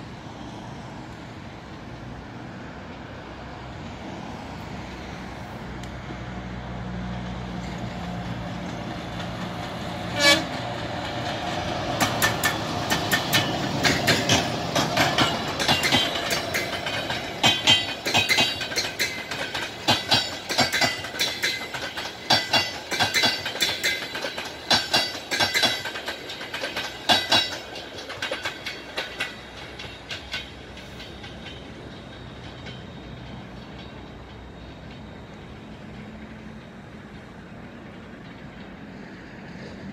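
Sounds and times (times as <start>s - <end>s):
electric locomotive humming: 0.0s - 39.9s
train wheels clicking over rail joints: 7.2s - 39.9s.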